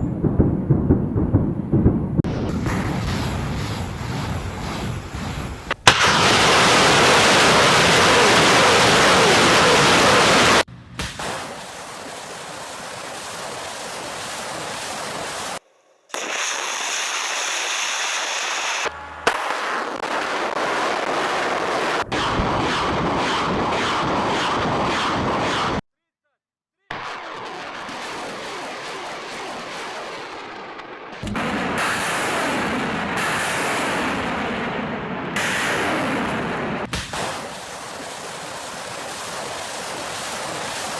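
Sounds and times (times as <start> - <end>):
rocket launchers firing: 0.0 - 12.9, 13.8 - 25.8, 27.0 - 40.9.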